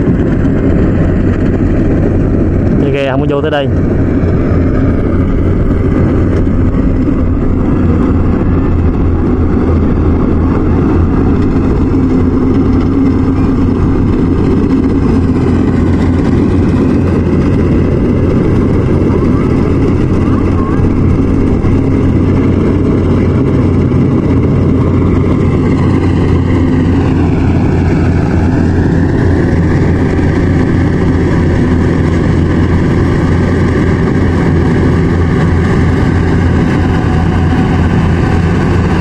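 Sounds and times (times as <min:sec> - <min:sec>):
combine harvester engine running: 0:00.0 - 0:39.0.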